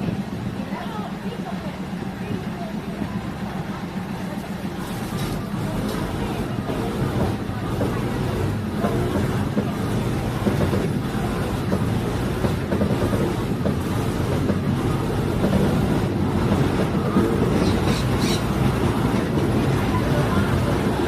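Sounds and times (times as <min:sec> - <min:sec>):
railcar engine drone: 0:00.0 - 0:21.0
wheels on rails: 0:00.0 - 0:21.0.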